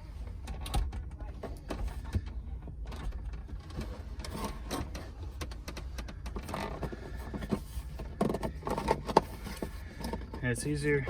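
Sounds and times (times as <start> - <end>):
plastic console scraping and knocking: 0.4 - 10.8.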